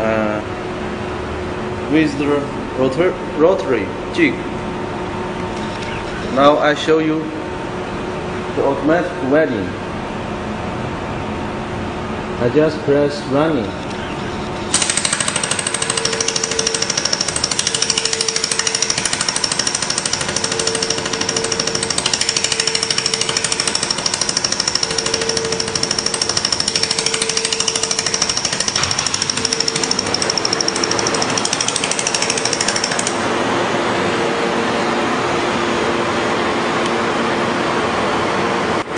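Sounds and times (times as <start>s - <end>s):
machine hum: 0.0s - 8.8s, 9.5s - 38.9s.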